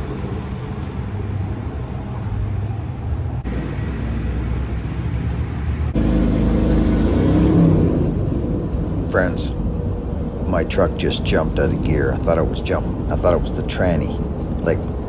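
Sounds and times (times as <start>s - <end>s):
road noise inside cab: 0.0s - 15.0s
truck engine without muffler: 0.0s - 15.0s.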